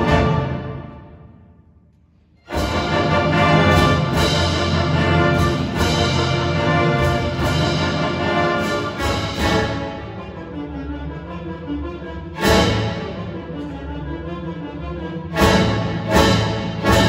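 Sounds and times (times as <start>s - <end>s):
orchestra playing: 0.0s - 1.5s, 2.4s - 17.0s.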